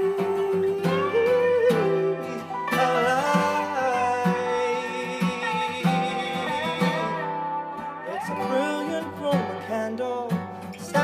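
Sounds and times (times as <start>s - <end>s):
guitar-led rock band playing: 0.0s - 11.0s.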